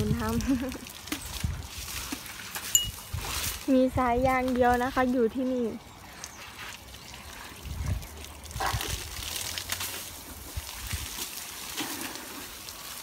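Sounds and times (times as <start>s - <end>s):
hose water splashing: 0.0s - 13.0s.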